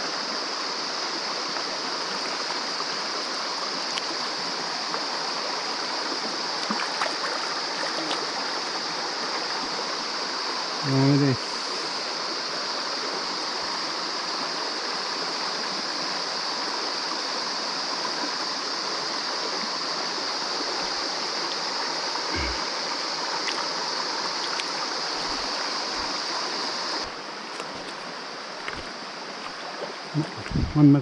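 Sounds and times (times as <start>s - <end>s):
stream water over rocks: 0.0s - 31.0s.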